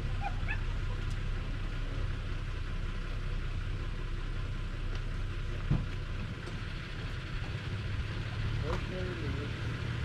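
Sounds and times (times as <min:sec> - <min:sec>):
road noise: 0:00.0 - 0:10.0
vehicle engine rumble: 0:00.0 - 0:10.0.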